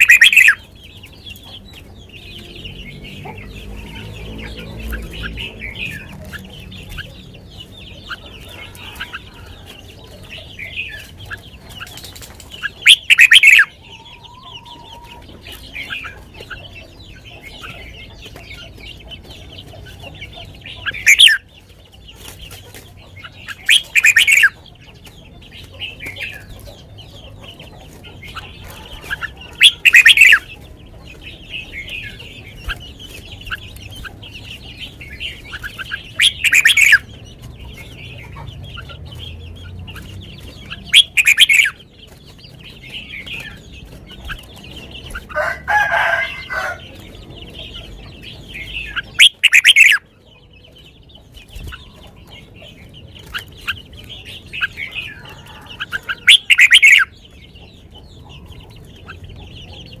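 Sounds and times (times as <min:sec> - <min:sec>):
chicken calling: 0:00.0 - 1:00.0
small birds chattering: 0:00.0 - 1:00.0.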